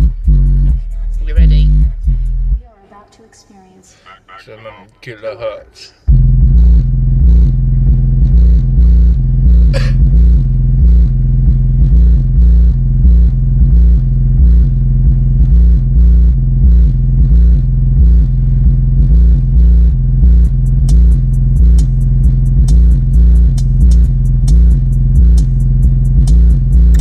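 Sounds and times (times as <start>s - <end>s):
bass-heavy music from car speakers: 0.0s - 2.6s, 6.1s - 27.0s.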